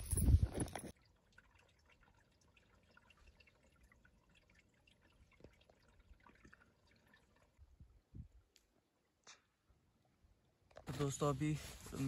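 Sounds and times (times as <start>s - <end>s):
water dripping into pool: 0.9s - 10.8s.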